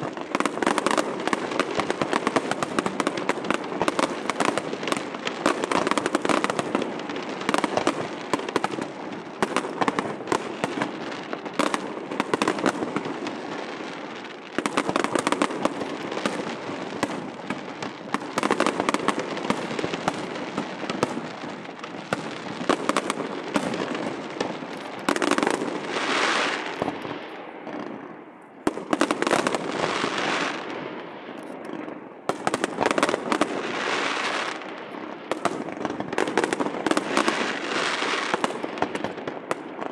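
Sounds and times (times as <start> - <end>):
fireworks bursts and pops: 0.0 - 39.9.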